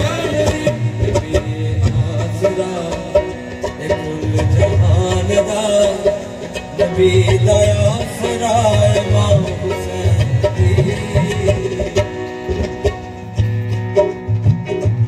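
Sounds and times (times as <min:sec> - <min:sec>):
man singing: 0:00.0 - 0:12.8
harmonium melody: 0:00.0 - 0:15.0
percussion beat: 0:00.0 - 0:15.0.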